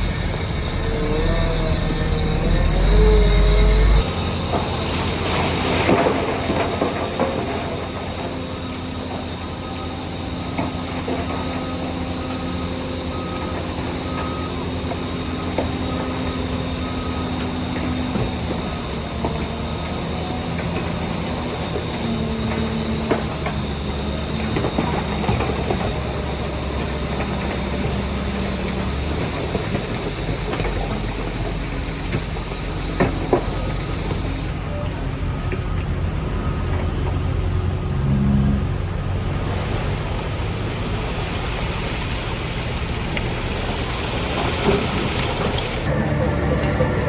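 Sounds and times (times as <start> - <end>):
bulldozer diesel engine: 0.0 - 47.0.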